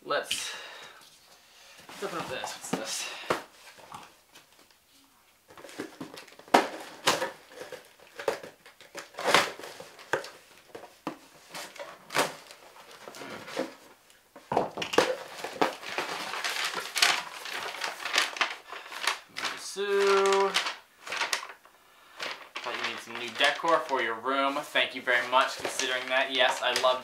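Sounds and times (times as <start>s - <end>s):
paper rustling and crinkling: 1.8s - 14.0s, 14.9s - 27.0s.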